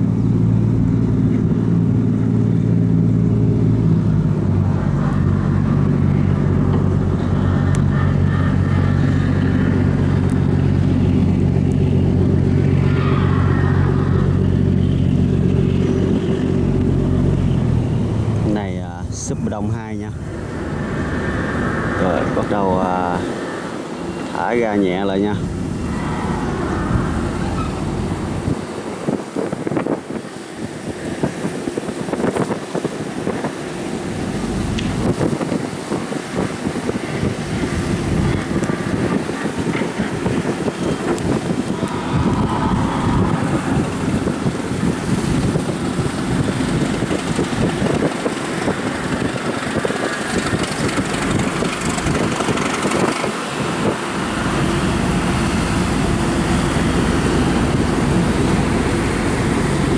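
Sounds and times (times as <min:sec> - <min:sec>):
bow wave rushing and splashing: 0:00.0 - 0:59.9
ferry engines running: 0:00.0 - 0:59.9
wind buffeting microphone: 0:00.0 - 0:59.9.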